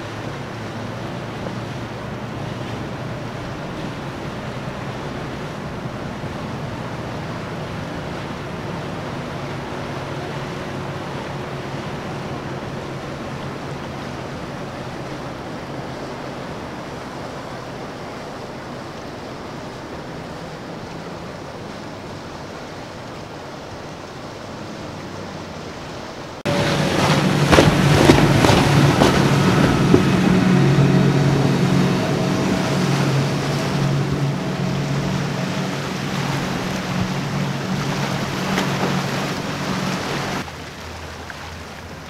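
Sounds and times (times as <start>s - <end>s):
boat engine hum: 0.0s - 42.0s
rushing wake water: 0.0s - 42.0s.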